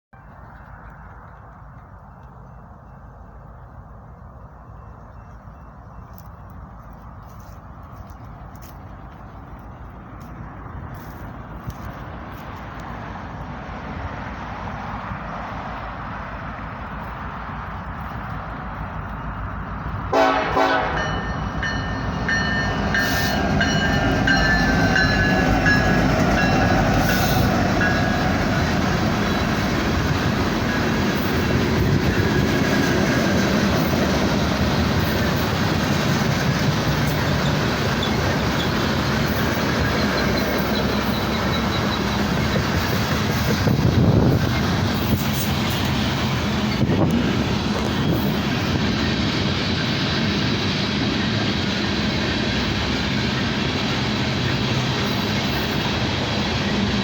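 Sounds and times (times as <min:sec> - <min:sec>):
diesel locomotive drone: 0:00.1 - 0:57.0.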